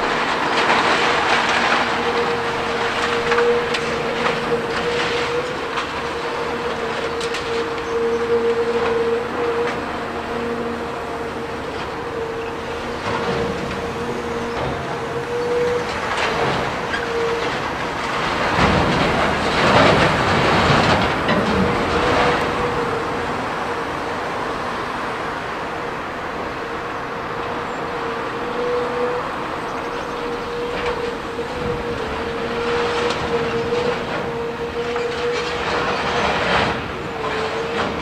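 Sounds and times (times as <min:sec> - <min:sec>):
excavator engine whine: 0:00.0 - 0:38.0.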